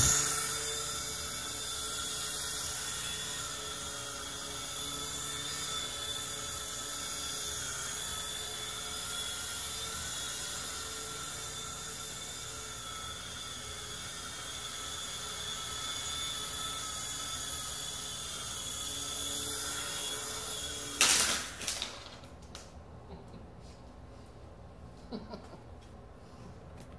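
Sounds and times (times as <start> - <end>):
toy helicopter whine: 0.0 - 22.8.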